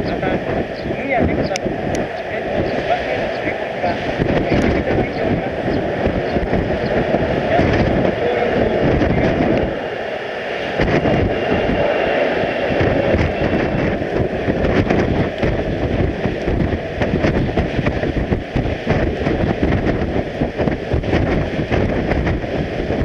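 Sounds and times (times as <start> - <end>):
gusty wind buffeting microphone: 0.0 - 23.0
jet engines whining: 0.0 - 23.0.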